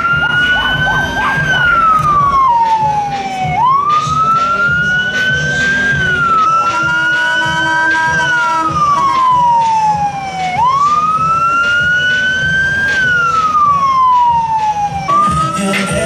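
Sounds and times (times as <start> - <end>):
low vehicle rumble: 0.0 - 16.0
siren wailing: 0.0 - 16.0.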